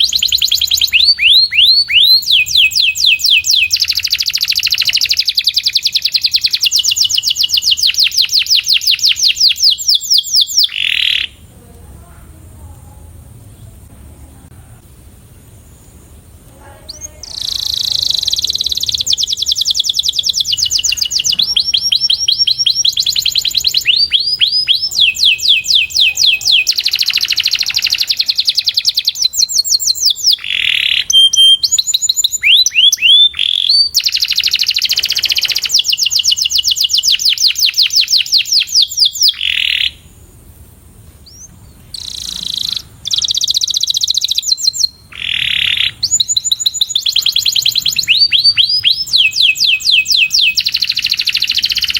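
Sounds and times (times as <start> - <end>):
canary singing trills: 0.0 - 11.5, 15.5 - 40.3, 41.2 - 51.9.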